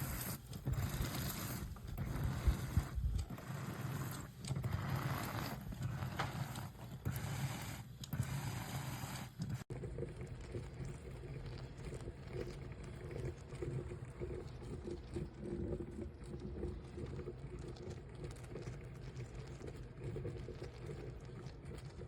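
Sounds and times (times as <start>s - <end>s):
coffee percolator bubbling: 0.0s - 22.0s.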